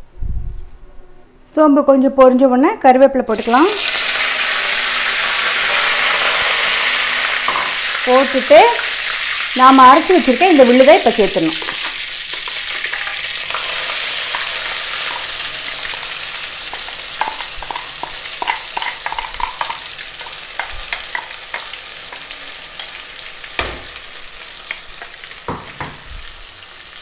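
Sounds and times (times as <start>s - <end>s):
paste sizzling in hot oil: 3.4s - 27.0s.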